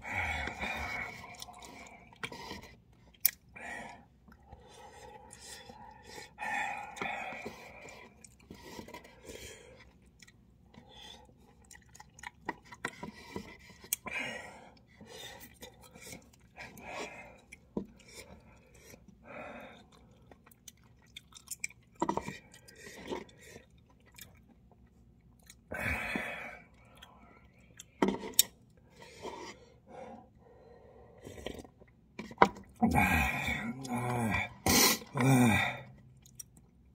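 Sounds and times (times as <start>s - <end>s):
chewing noodles: 0.1s - 29.6s, 31.2s - 36.9s.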